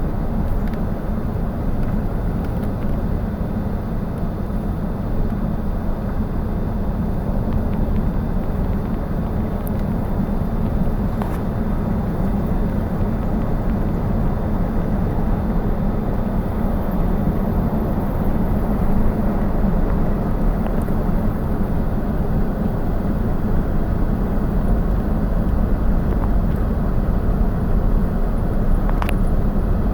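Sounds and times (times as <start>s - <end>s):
vehicle driving on road: 0.0s - 29.9s.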